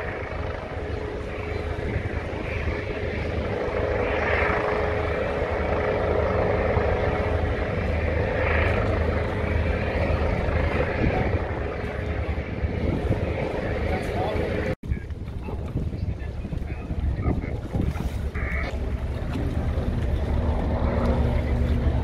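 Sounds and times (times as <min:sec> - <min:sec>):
helicopter engine whine: 0:00.0 - 0:22.0
helicopter rotor beating: 0:00.0 - 0:22.0.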